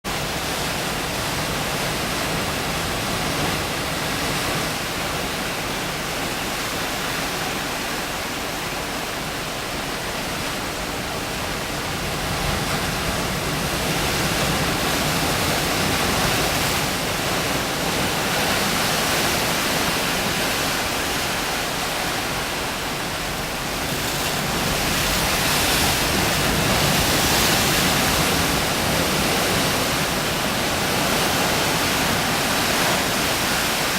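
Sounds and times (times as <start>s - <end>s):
surf roaring on rocky shore: 0.1s - 33.9s.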